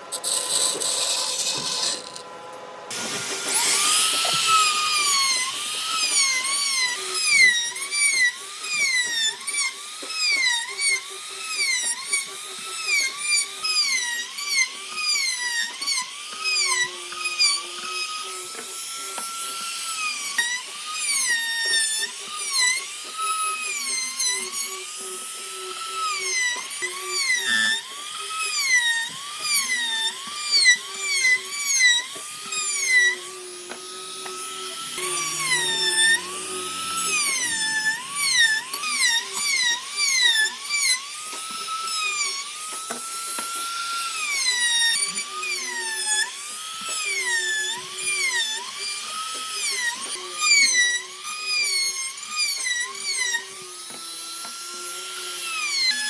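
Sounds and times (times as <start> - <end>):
rotary tool whining on wood: 0.0 - 56.0.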